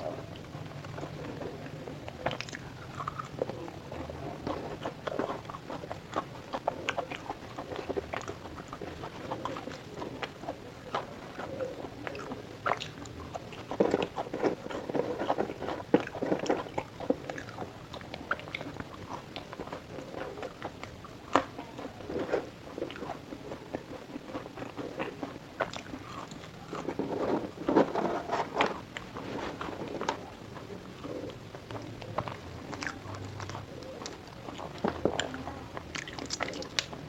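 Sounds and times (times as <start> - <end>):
chewing crunchy fried food: 0.0 - 37.0.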